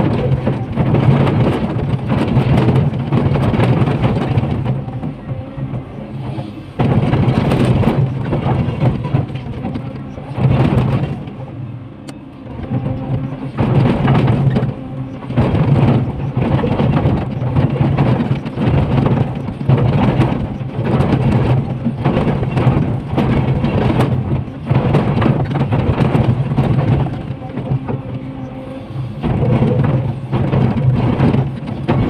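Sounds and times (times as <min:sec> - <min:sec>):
excavator diesel engine: 0:00.0 - 0:32.0.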